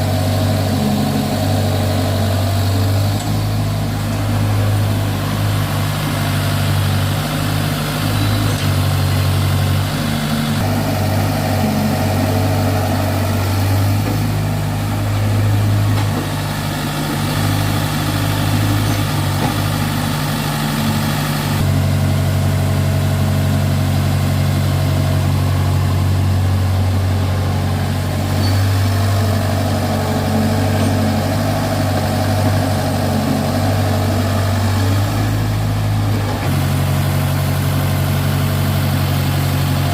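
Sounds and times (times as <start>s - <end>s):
tractor diesel engine humming: 0.0s - 39.9s.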